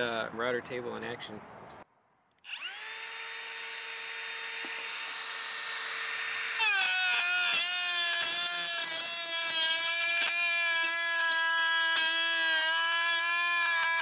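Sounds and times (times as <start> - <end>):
router cutting wood: 2.4 - 14.0
router whining: 2.4 - 14.0.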